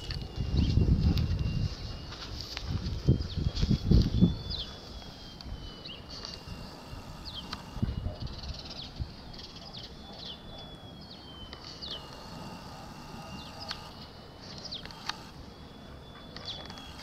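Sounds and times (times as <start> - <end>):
thin steady high whistle: 0.0 - 17.0
small birds chirping: 3.1 - 17.0.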